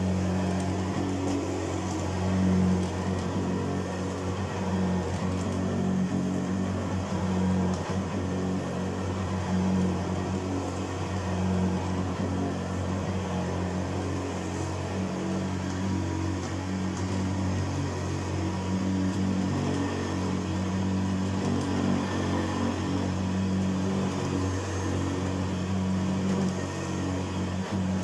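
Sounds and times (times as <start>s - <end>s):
upright vacuum cleaner running: 0.0s - 28.0s.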